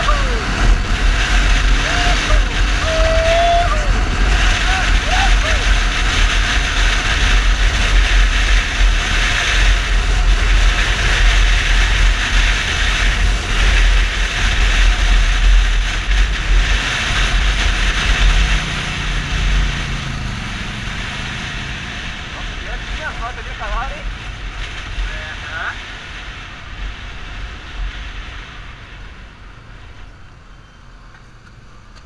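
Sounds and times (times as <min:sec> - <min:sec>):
wind over microphone: 0:00.0 - 0:30.1
motorcycle engine: 0:00.0 - 0:32.0.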